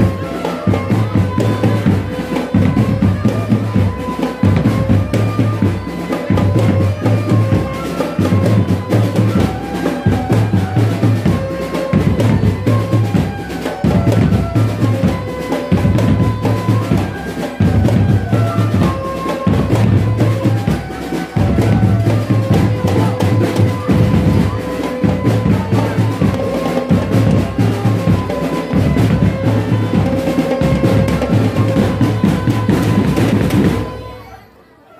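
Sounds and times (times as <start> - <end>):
snare drums: 0.0 - 34.1.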